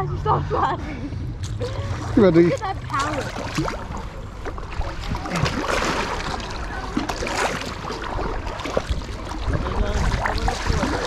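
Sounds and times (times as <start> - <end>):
low rumble: 0.0 - 11.0
paddles splashing in water: 1.4 - 11.0.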